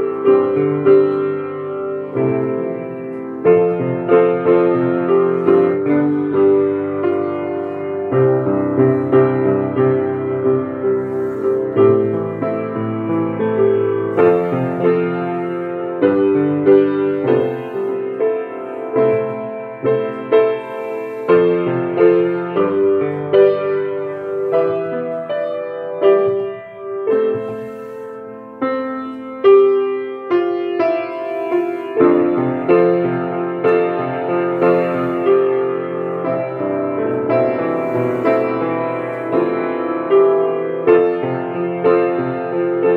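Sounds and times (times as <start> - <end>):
upright piano melody: 0.0 - 42.9.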